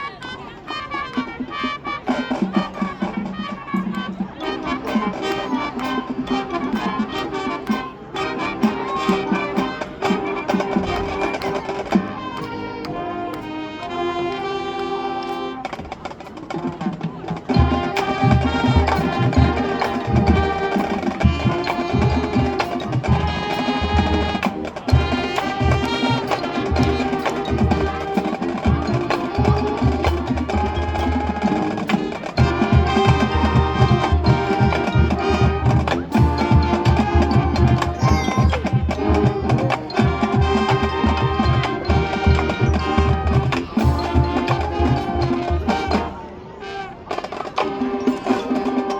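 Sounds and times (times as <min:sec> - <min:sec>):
marching band wind and brass: 0:00.0 - 0:48.9
drum line steady beat: 0:02.3 - 0:13.5, 0:15.3 - 0:46.2.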